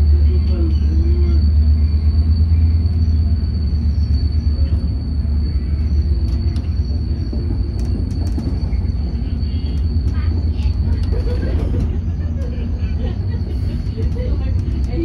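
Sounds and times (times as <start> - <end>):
diesel train rumble: 0.0 - 15.0.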